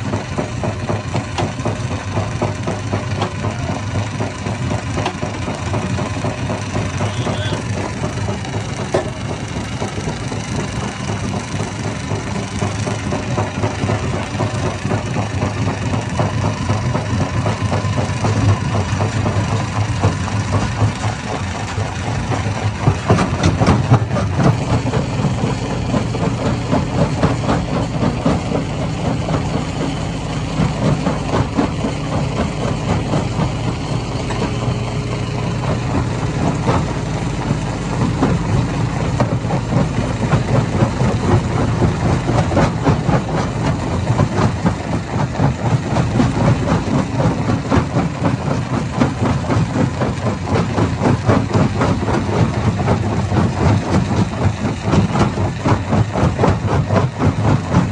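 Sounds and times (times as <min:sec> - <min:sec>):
stone crusher machine running: 0:00.0 - 0:57.9.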